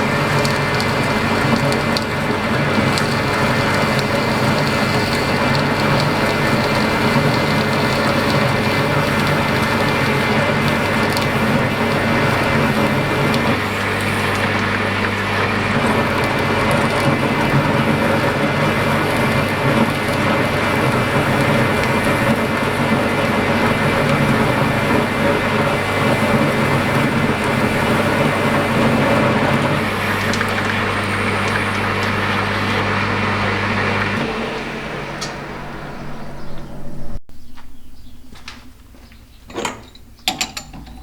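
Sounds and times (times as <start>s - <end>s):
grinder hissing: 0.0s - 37.2s
motor hum: 0.0s - 39.6s.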